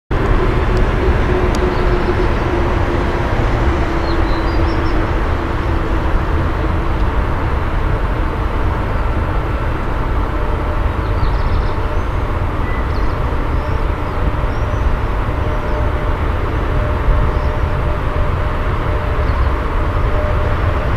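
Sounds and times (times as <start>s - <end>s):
electric locomotive rumble: 0.1s - 20.9s.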